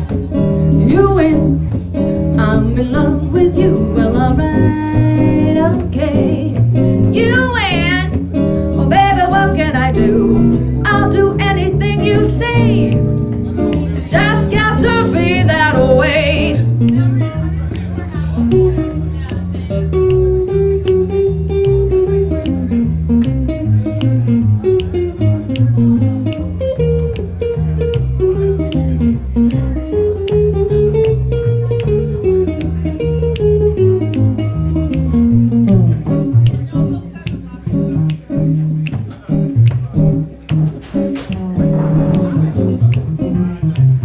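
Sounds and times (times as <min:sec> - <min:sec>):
bass guitar: 0:00.0 - 0:44.0
guitar solo: 0:00.0 - 0:44.0.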